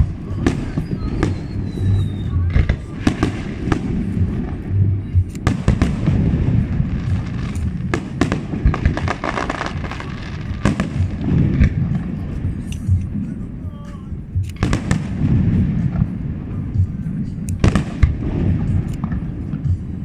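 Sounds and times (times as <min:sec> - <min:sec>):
fireworks bangs: 0:00.0 - 0:20.0
steady low rumble: 0:00.0 - 0:20.0.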